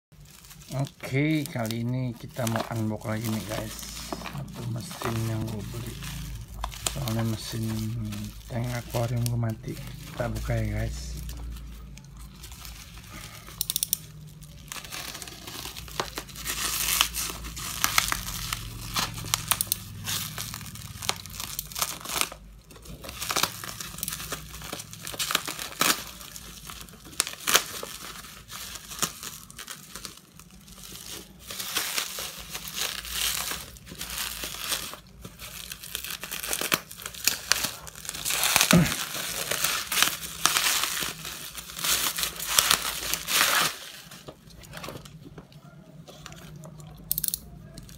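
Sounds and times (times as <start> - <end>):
bubble wrap crinkling and tearing: 0.1 - 47.9.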